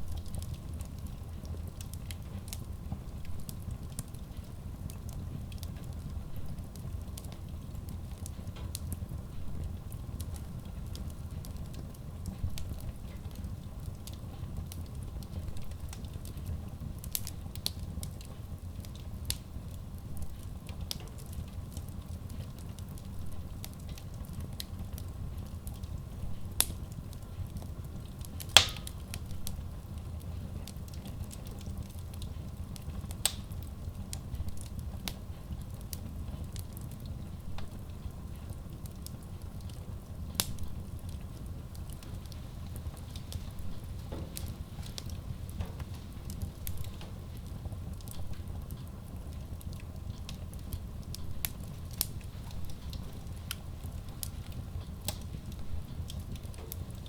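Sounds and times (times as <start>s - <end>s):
fire rumbling in a stove: 0.0s - 57.0s
logs crackling and popping: 0.0s - 57.0s.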